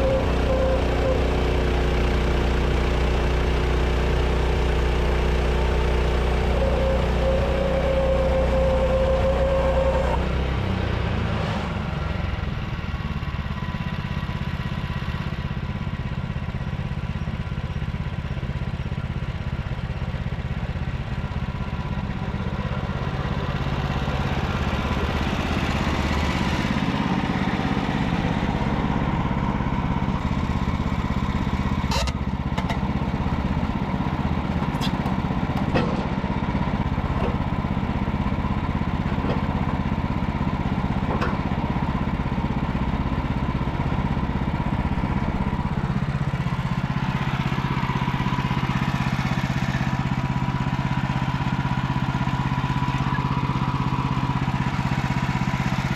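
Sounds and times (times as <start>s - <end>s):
sawmill gas engine running: 0.0s - 55.9s.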